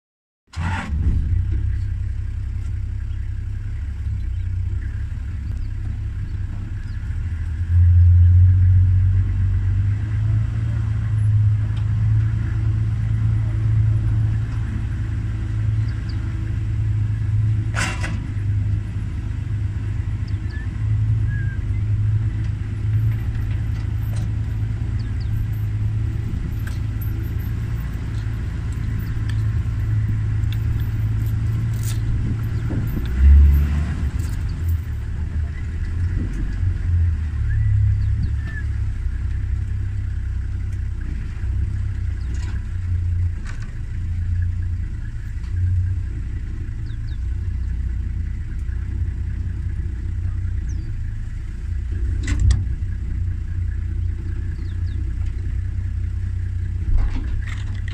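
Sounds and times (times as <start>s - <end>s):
vehicle engine low rumble: 0.5s - 57.9s.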